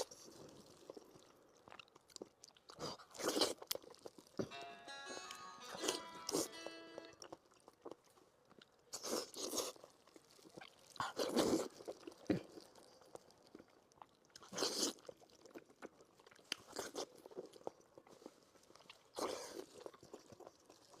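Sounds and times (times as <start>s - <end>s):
close chewing and biting: 0.0s - 4.4s, 5.8s - 21.0s.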